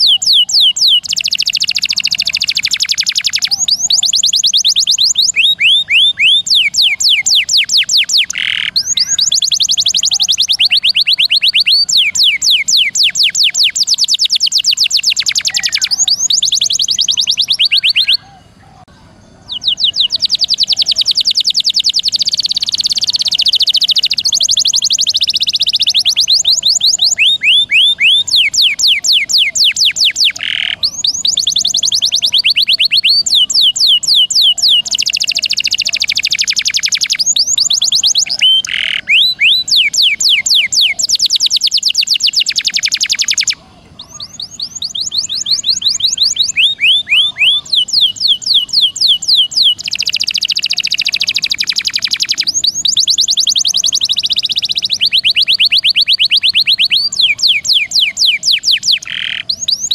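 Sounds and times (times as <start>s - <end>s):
canary singing rapid trills: 0.0s - 59.9s.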